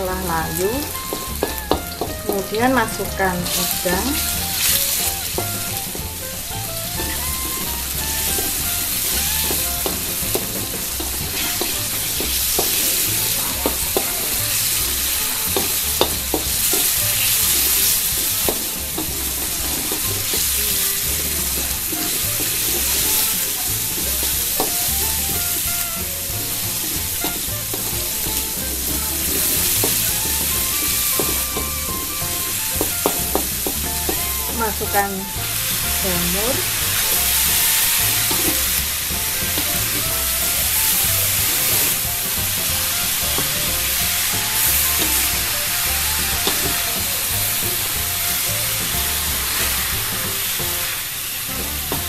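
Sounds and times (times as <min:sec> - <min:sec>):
shrimp sizzling in hot oil: 0:00.0 - 0:52.0
spatula tapping and scraping pan: 0:00.3 - 0:50.9.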